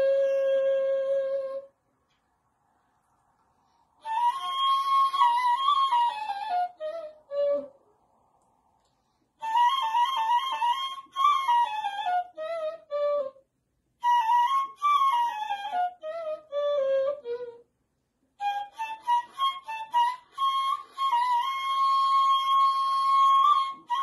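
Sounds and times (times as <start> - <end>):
breathy cane flute melody: 0.0 - 1.8, 3.6 - 8.0, 8.9 - 17.8, 18.4 - 24.0.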